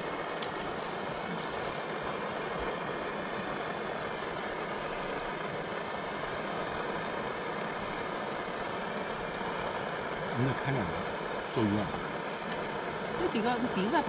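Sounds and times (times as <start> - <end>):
gas stove hissing: 0.0 - 14.0.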